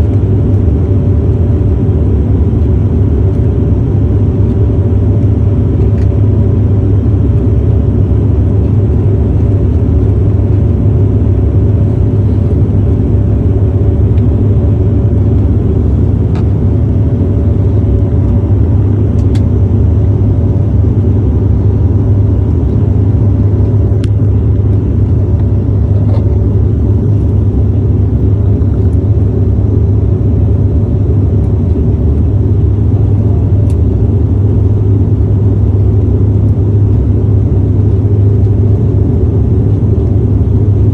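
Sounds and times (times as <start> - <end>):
airliner cabin rumble: 0.0 - 40.9
faint steady hum: 0.0 - 40.9.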